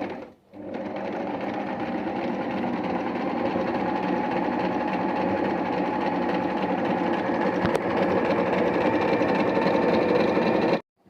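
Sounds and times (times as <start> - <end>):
electric sewing machine stitching: 0.0 - 10.8.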